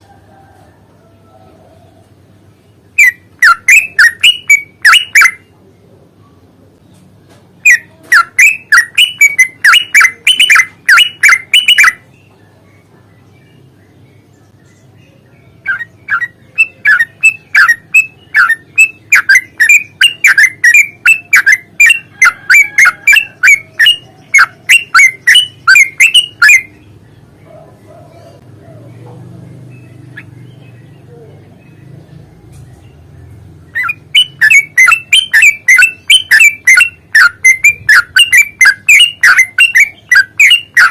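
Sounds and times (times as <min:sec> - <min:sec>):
bulbul singing chattering song: 0:01.5 - 0:40.9.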